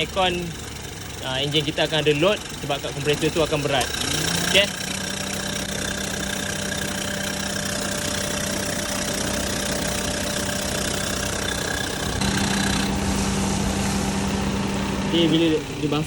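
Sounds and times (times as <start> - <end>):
accessory belt humming: 0.0 - 16.0
car engine idling: 0.0 - 16.0.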